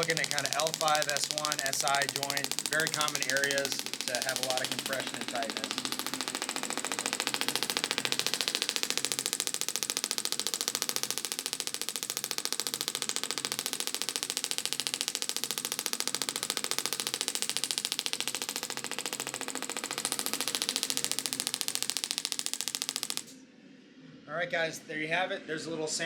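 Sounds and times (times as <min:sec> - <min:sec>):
fast mechanical clicking: 0:00.0 - 0:23.4.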